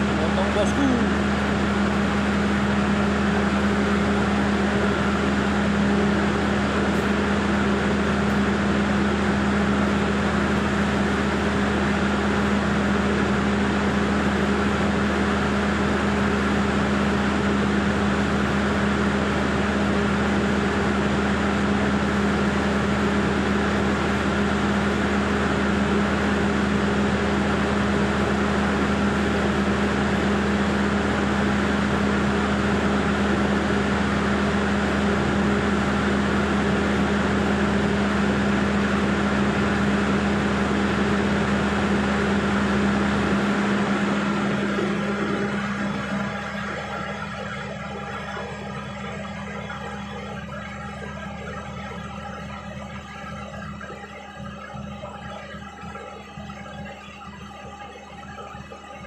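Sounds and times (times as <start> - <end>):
engine humming steadily: 0.0 - 59.0.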